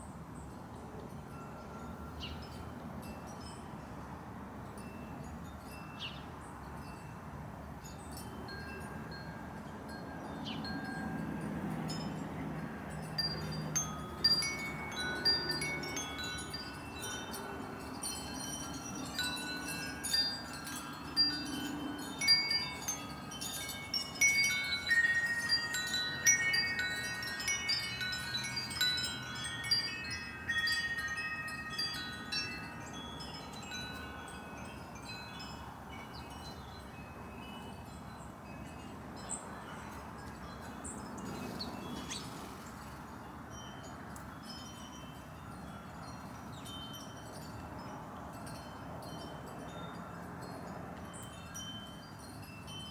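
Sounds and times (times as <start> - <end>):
wind chimes ringing: 1.3 - 52.9.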